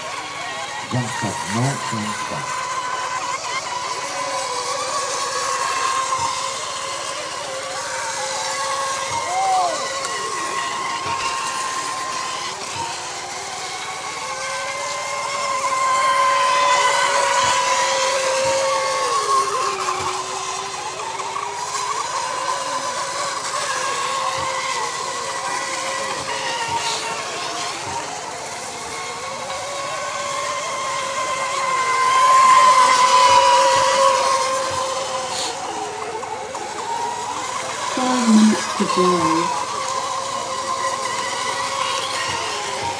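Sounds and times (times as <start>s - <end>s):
racing boat motors whining: 0.0s - 42.9s.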